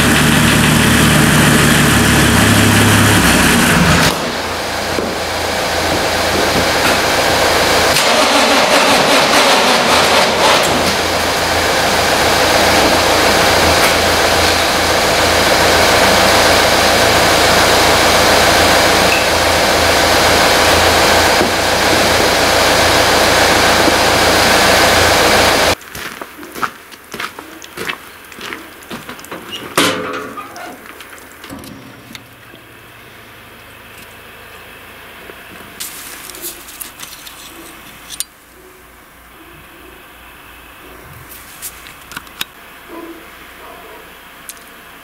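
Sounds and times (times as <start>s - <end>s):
car engine running: 0.0s - 25.8s, 27.8s - 38.1s.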